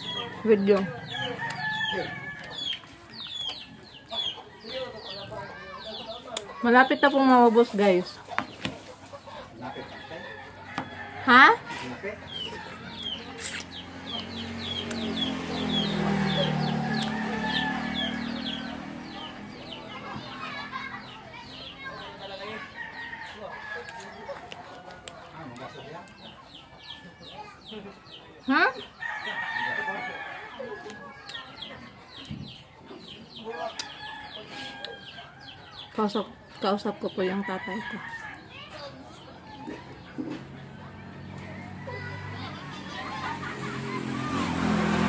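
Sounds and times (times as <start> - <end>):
chicks peeping: 0.0 - 45.0.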